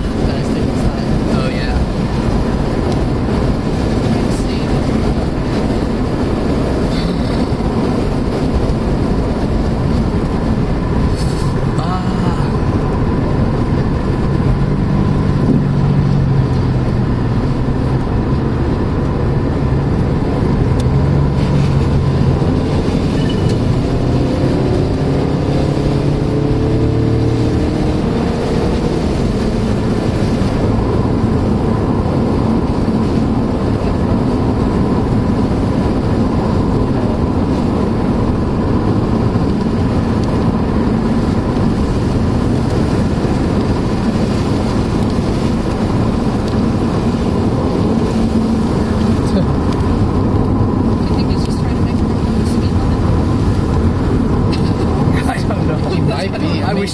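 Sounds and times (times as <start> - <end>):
engine hum: 0.0 - 56.9
tyre and wind noise: 0.0 - 56.9.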